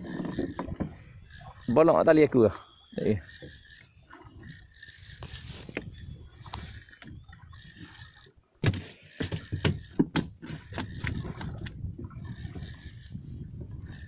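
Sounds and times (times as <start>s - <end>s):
fishing reel whirring: 0.1s - 8.4s, 10.9s - 14.0s.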